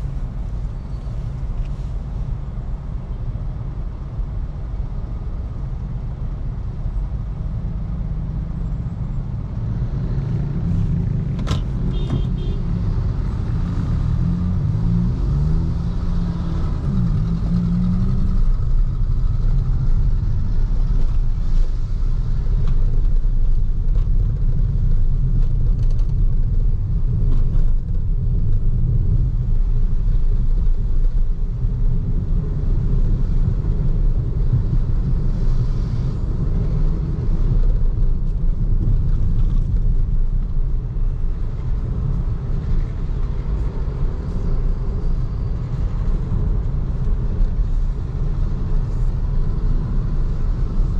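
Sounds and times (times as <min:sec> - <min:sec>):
tyre and road noise: 0:00.0 - 0:50.9.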